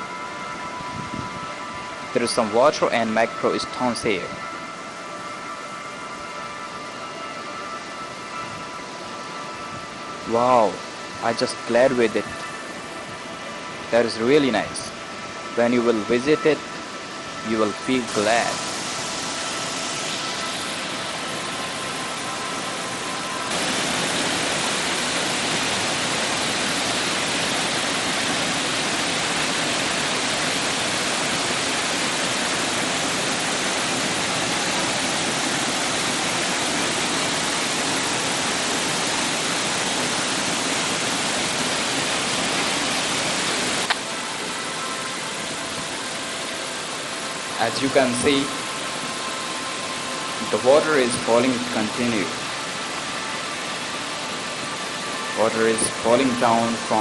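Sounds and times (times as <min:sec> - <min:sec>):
waterfall rushing: 0:08.8 - 0:57.0.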